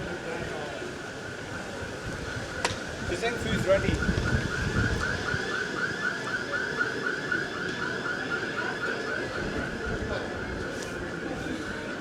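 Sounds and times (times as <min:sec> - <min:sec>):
low street noise: 0:00.0 - 0:12.0.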